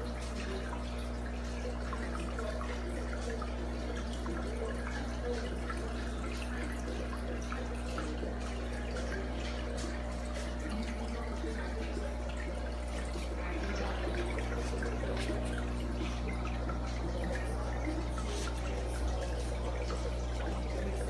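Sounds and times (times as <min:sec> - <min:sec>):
low pump hum: 0:00.0 - 0:21.0
water trickling and splashing: 0:00.0 - 0:21.0.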